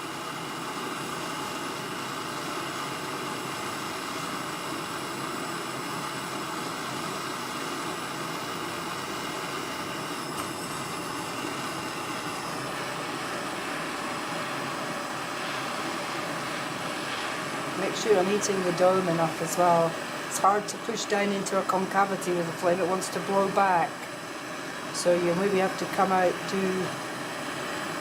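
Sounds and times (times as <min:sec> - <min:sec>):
gas torch hissing: 0:00.0 - 0:28.0.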